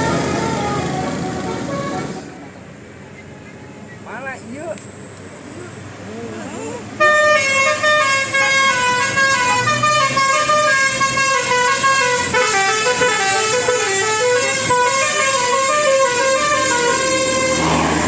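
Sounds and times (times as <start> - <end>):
multi-tone bus horn melody: 0.0 - 3.6, 6.9 - 18.0.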